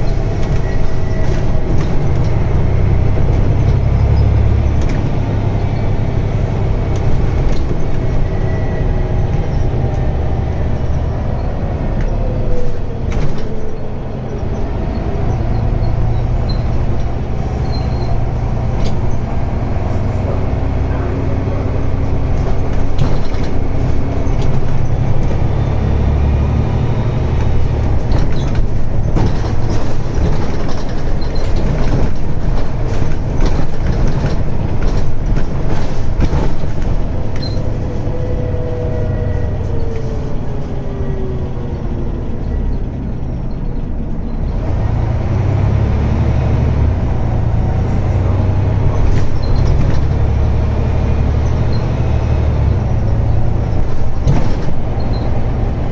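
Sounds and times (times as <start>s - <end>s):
rattling and clatter: 0.0s - 45.2s, 46.9s - 55.9s
bus diesel engine pulling hard: 0.0s - 55.9s.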